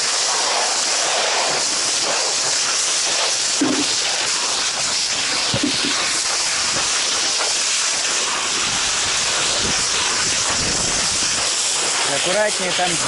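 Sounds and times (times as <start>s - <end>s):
fire hose spraying water: 0.0s - 13.0s.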